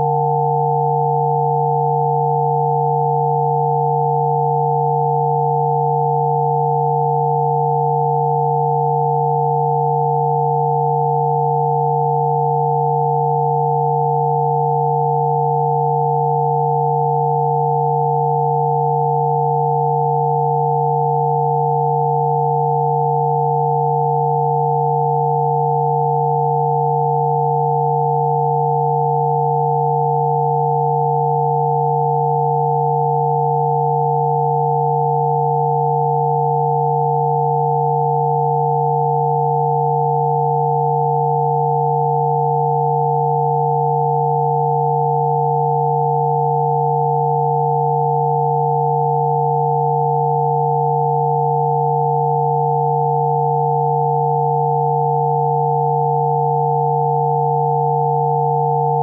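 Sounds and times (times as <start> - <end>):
steady electronic sine tones: 0.0 - 59.0.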